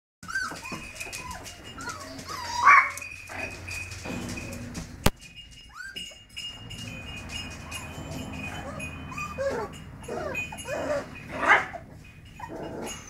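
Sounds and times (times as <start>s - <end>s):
puppies whining and yipping: 0.2s - 4.9s, 5.5s - 13.0s.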